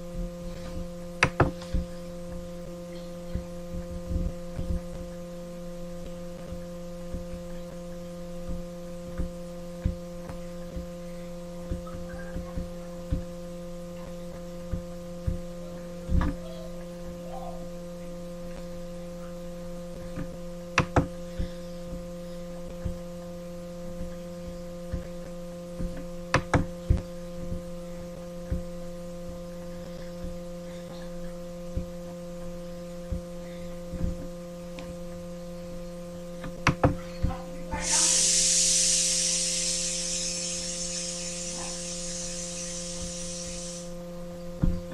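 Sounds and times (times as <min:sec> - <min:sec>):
steady electrical hum: 0:00.0 - 0:44.9.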